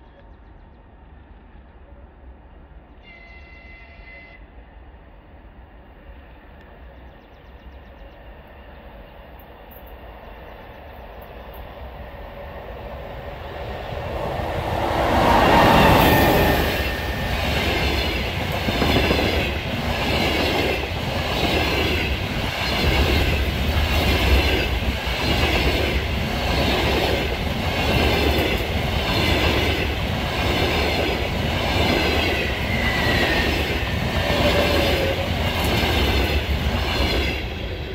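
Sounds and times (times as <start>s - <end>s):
passenger train passing: 0.0s - 37.9s.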